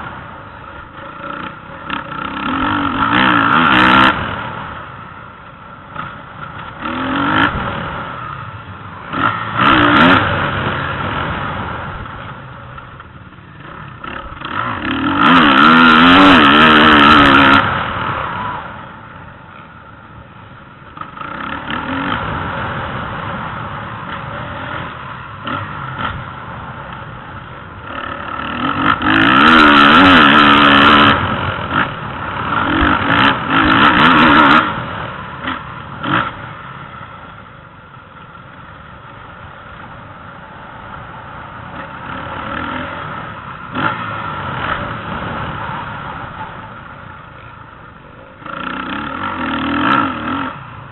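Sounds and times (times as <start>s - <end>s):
distant motorcycle engines: 0.0s - 50.9s
motocross motorcycles revving: 0.0s - 50.9s.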